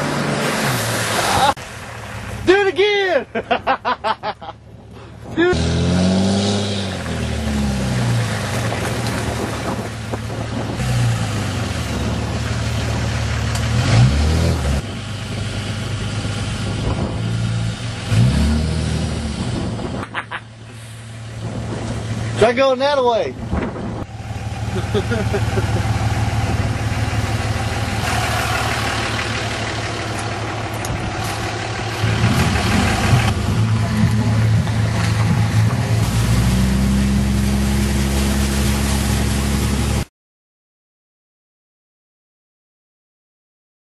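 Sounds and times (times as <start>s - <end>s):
diesel engine revving: 0.0s - 2.6s, 4.8s - 22.6s, 23.4s - 40.1s.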